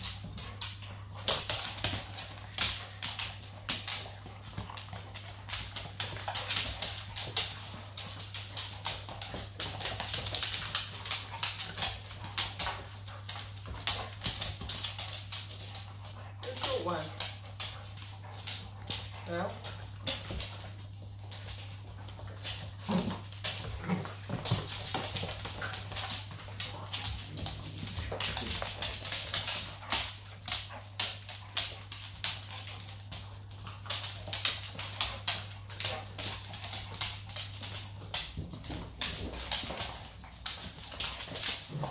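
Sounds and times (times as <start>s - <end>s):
dog claws clicking on wooden floor: 0.0s - 41.9s.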